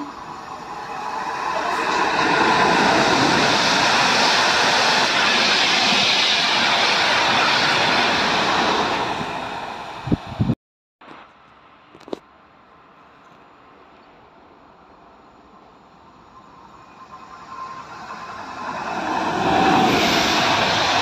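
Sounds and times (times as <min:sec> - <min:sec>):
electric train passing at speed: 0:00.0 - 0:10.6, 0:12.6 - 0:21.0.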